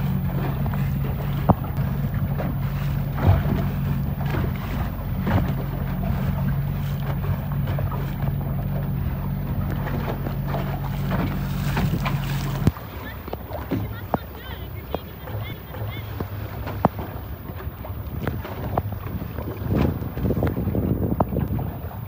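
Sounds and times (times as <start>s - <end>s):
boat motor humming: 0.0s - 22.0s
water splashing: 0.0s - 22.0s
wind buffeting microphone: 0.0s - 22.0s.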